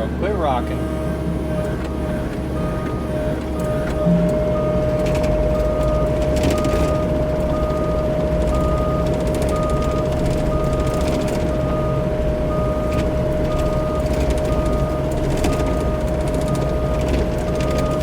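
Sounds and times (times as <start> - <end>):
excavator diesel engine whining: 0.0 - 18.0
short alarm beeps: 1.6 - 17.0.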